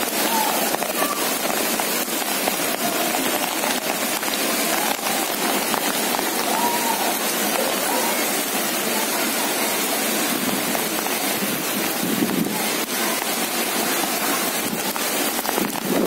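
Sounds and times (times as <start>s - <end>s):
heavy rain on street: 0.0s - 16.0s.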